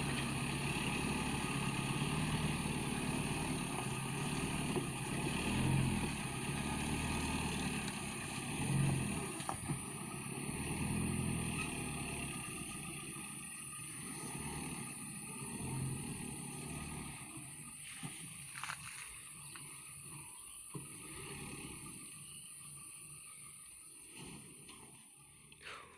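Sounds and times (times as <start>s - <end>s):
truck engine labouring: 0.0s - 25.9s.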